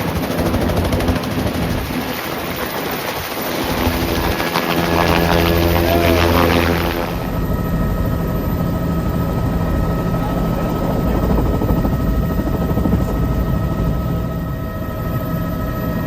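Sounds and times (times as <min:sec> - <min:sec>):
helicopter drone: 0:00.0 - 0:16.0.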